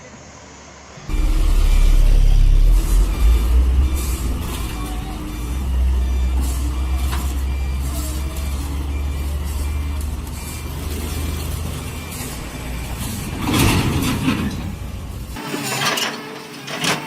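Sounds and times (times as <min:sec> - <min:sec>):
loud rush of noise: 0:00.6 - 0:15.4
heavy vehicle engine rumbling: 0:00.7 - 0:15.4
reversing alarm beeping: 0:01.1 - 0:15.4.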